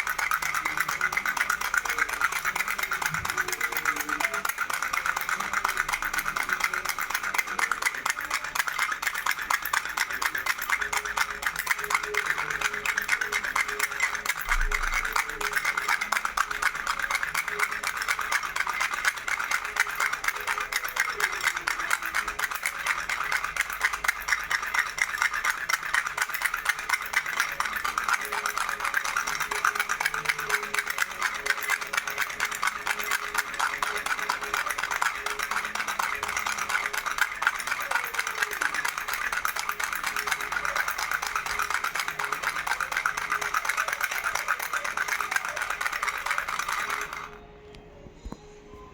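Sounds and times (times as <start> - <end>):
baby rattle shaken rapidly: 0.0 - 47.4.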